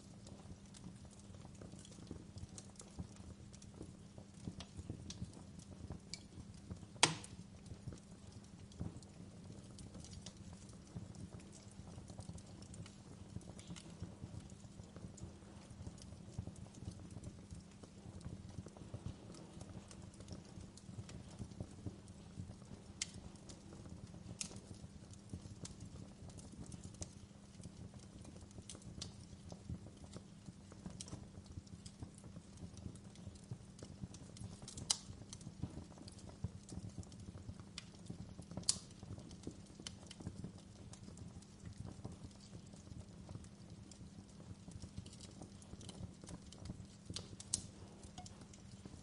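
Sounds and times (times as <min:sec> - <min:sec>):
wood fire crackling: 0:00.0 - 0:49.0
sharp fire pops: 0:03.7 - 0:08.0, 0:08.7 - 0:42.6, 0:44.6 - 0:49.0.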